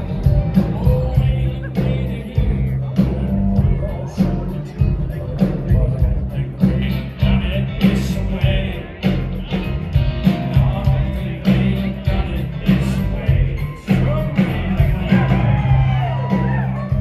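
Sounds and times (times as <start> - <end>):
live country band playing: 0.0 - 17.0
man singing lead vocal: 0.0 - 17.0.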